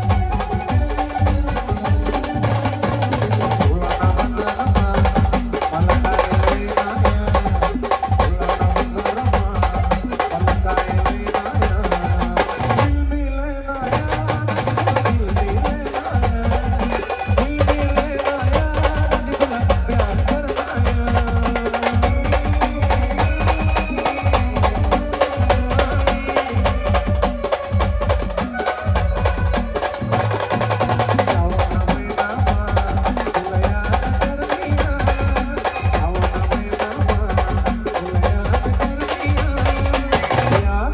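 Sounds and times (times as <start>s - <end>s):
driving drum rhythm: 0.0s - 13.1s, 13.8s - 40.9s.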